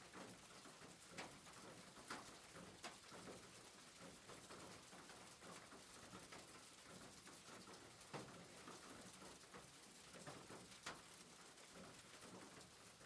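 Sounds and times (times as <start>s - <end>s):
rain pattering on a roof: 0.0s - 13.0s.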